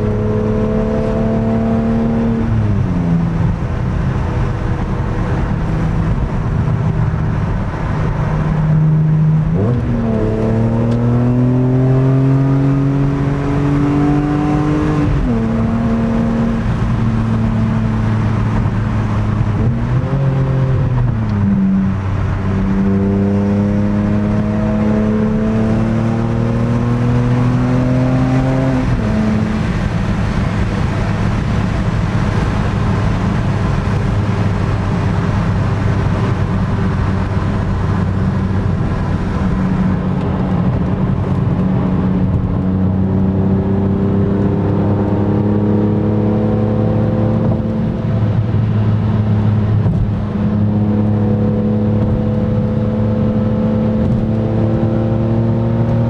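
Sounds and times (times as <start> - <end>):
car engine revving through gears: 0.0 - 56.0
road and tyre noise: 0.0 - 56.0.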